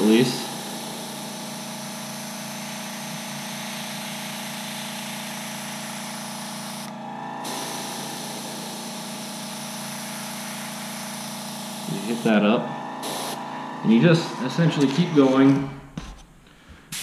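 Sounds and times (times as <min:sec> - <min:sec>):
airbrush hissing: 0:00.0 - 0:15.4
steady low hum: 0:00.0 - 0:16.9.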